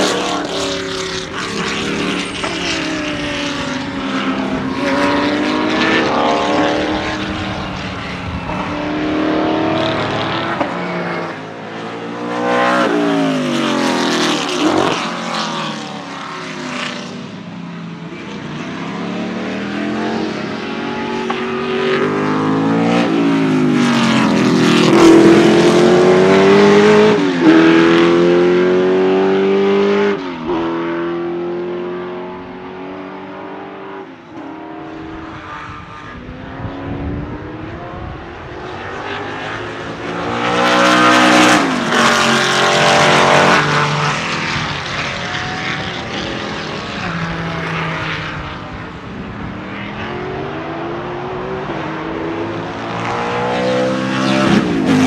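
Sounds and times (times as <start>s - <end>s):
race car engine accelerating: 0.0s - 17.2s, 18.4s - 55.0s.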